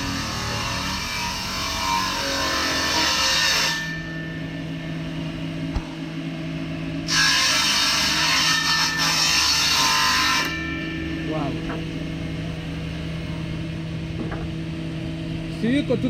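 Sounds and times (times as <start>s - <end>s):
woodworking machine hum: 0.0s - 16.0s.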